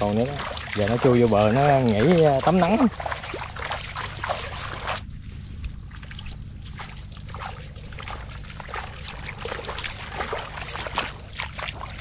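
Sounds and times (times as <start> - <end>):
steady low rumble: 0.0 - 12.0
water splashing and sloshing: 0.0 - 12.0.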